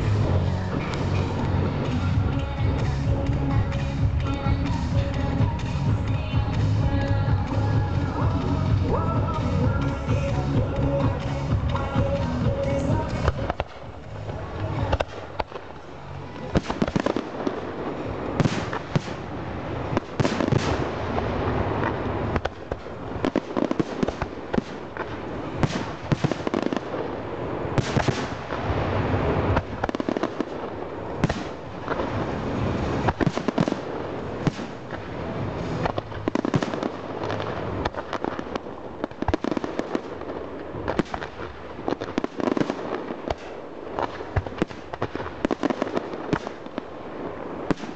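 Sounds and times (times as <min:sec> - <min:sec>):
firework crackle: 0:00.0 - 0:47.9.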